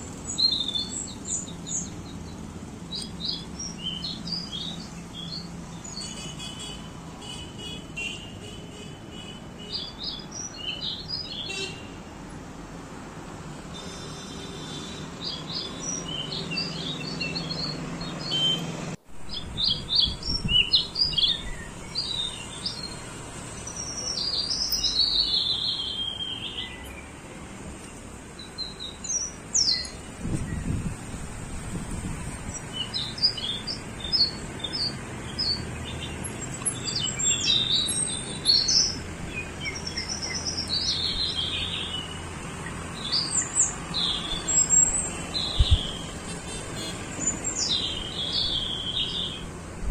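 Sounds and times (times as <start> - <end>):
birds chirping and singing: 0.2 - 6.8, 9.6 - 12.0, 14.6 - 18.7, 19.3 - 27.2, 28.4 - 49.9.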